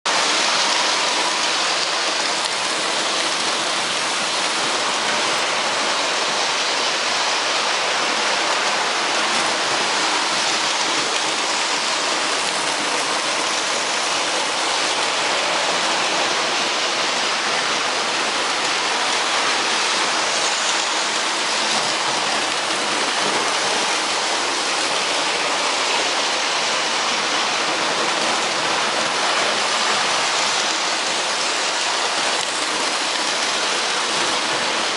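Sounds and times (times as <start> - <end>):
steady rushing noise: 0.1 - 34.9.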